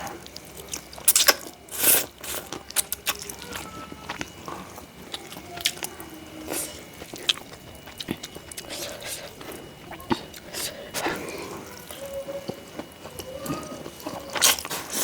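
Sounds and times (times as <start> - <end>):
chewing and mouth smacking: 0.0 - 15.0.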